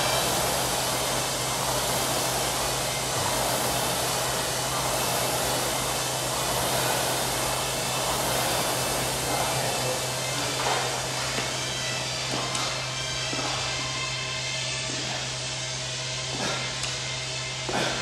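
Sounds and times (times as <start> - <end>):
constant low hum: 0.0 - 18.0
rowing machine fan whooshing: 0.0 - 18.0.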